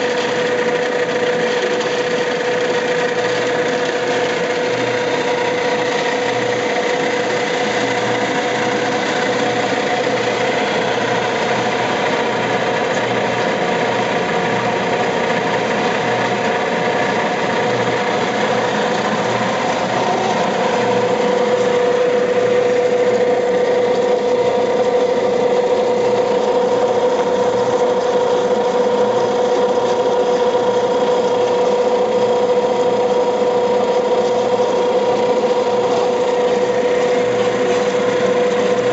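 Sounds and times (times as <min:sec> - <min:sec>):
coffee pulping machine running: 0:00.0 - 0:38.9.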